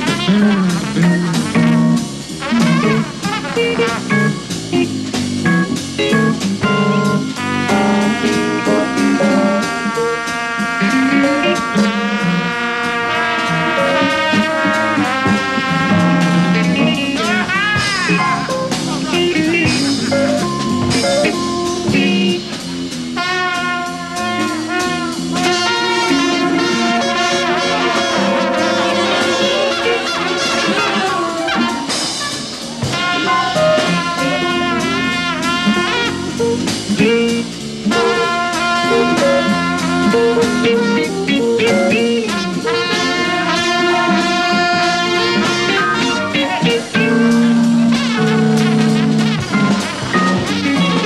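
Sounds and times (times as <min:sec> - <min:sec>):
high trumpet run: 0:00.0 - 0:04.8, 0:06.8 - 0:22.5, 0:23.2 - 0:51.0
brass section playing: 0:00.0 - 0:51.0
drums: 0:00.0 - 0:51.0.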